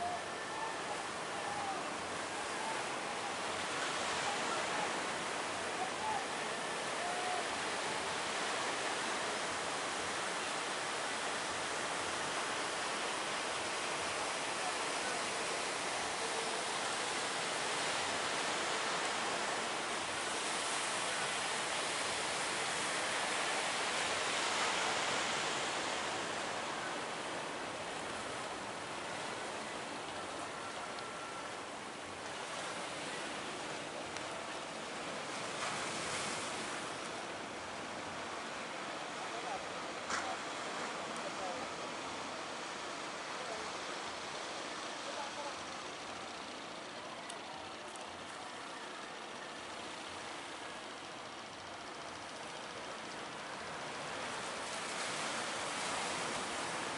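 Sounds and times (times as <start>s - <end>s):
sea waves breaking: 0.0s - 48.4s, 49.0s - 56.9s.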